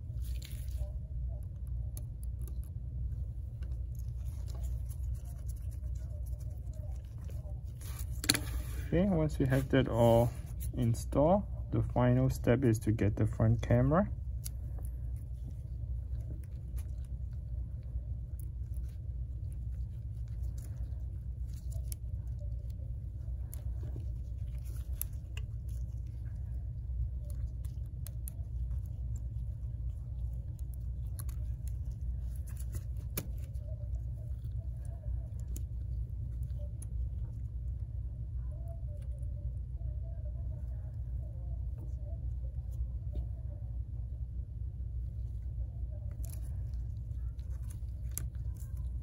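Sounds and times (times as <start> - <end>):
small clicks and rustles: 0.0 - 10.9, 13.9 - 49.0
steady low hum: 0.0 - 49.0.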